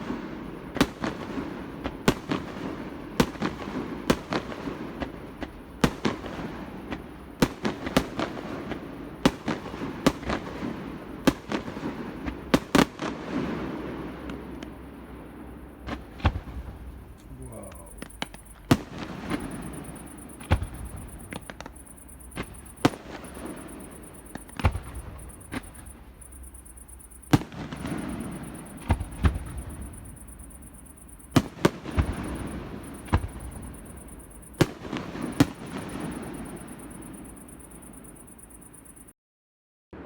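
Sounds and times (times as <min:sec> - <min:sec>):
fireworks bangs: 0:00.0 - 0:39.1
fireworks rumble and crackle: 0:00.0 - 0:39.1.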